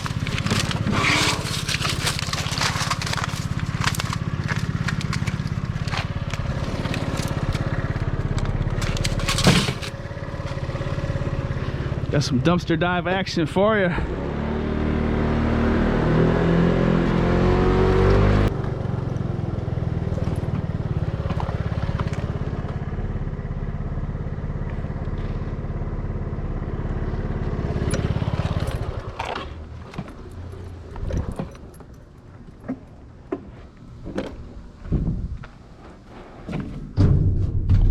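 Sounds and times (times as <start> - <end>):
vehicle engine accelerating: 0.0 - 31.6.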